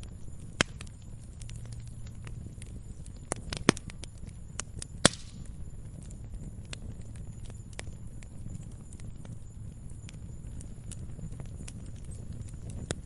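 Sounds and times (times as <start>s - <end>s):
low steady rumble: 0.0s - 13.0s
wood fire crackling: 0.0s - 13.0s.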